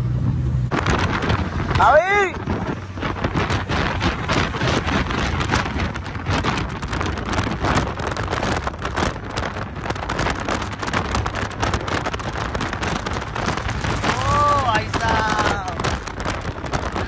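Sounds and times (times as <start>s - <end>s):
motorcycle engine hum: 0.0s - 17.0s
wind buffeting microphone: 0.0s - 17.0s.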